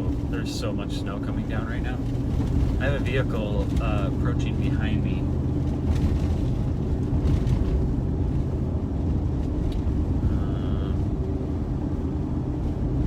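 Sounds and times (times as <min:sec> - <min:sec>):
car engine and road drone: 0:00.0 - 0:13.0.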